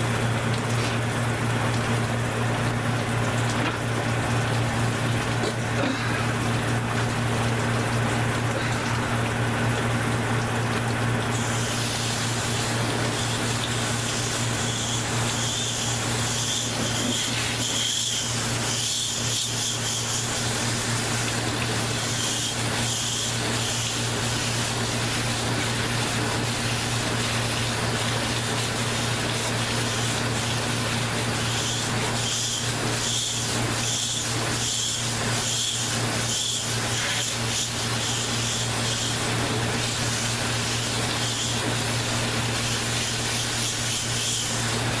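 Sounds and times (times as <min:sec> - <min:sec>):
water spraying on coil: 0:00.0 - 0:45.0.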